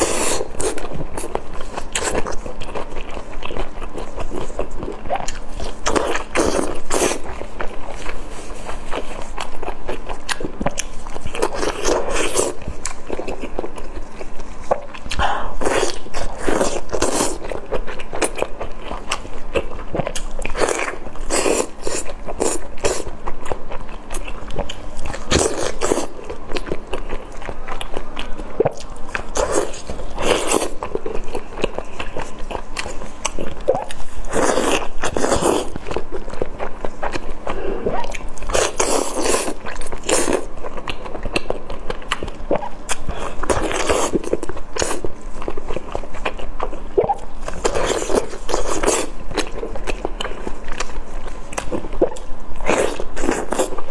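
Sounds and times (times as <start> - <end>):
person chewing wetly: 0.0 - 53.9.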